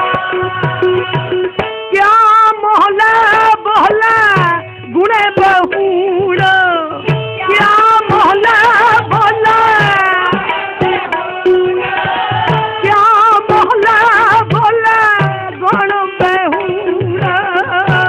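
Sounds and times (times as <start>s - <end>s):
person singing with vibrato: 0.0s - 18.0s
tabla strokes: 0.0s - 18.0s.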